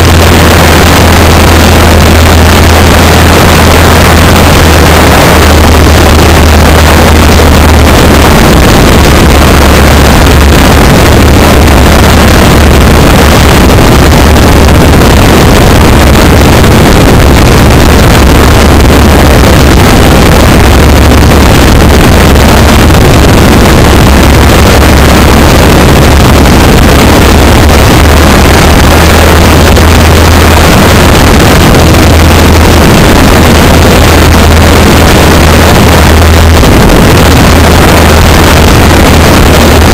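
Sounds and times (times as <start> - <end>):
aircraft engine and propeller drone: 0.0 - 39.9
wind rush on microphone: 0.0 - 39.9.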